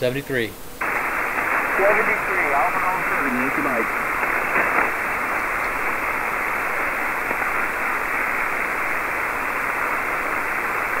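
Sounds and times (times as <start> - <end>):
radio receiver static hiss: 0.0 - 11.0.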